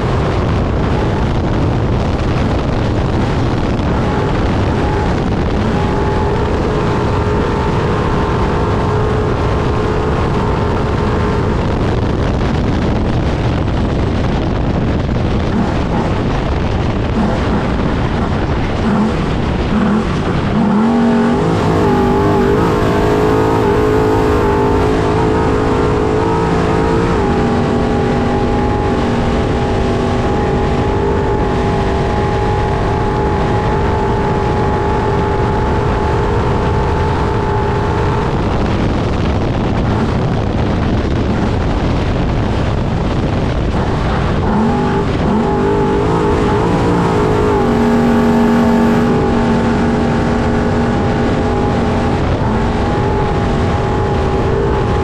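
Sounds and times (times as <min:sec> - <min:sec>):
off-road driving noise: 0:00.0 - 0:55.0
truck engine pulling hard: 0:00.0 - 0:55.0
wind noise: 0:00.0 - 0:55.0.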